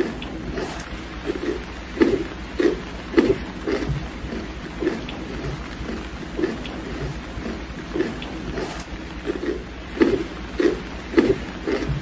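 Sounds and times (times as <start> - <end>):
rhythmic crunching: 0.0 - 12.0
steady rain: 0.0 - 12.0.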